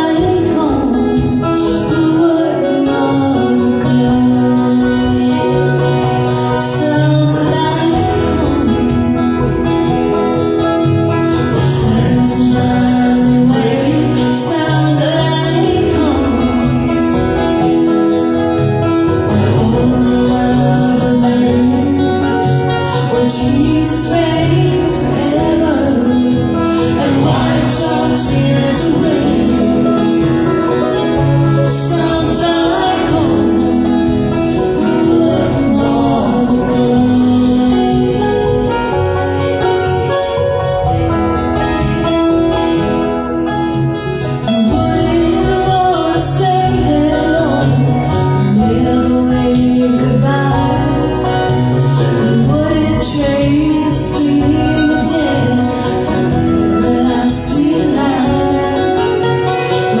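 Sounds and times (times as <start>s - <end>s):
person singing: 0.0s - 40.3s, 44.0s - 60.0s
acoustic guitar and plucked strings: 0.0s - 60.0s.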